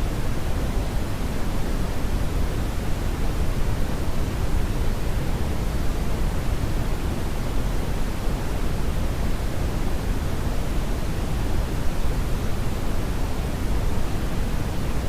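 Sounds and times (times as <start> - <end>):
brown noise hiss: 0.0 - 15.0.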